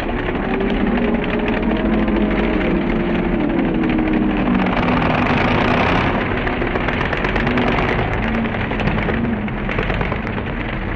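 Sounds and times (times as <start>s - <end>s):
crackling exhaust: 0.0s - 10.9s
engine revs: 0.0s - 10.9s
truck engines running loud: 0.0s - 10.9s.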